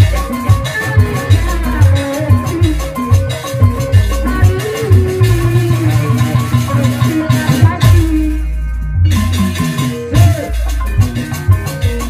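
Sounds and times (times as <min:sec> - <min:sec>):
gamelan ensemble: 0:00.0 - 0:12.0
hand drums heavy low beats: 0:00.0 - 0:12.0.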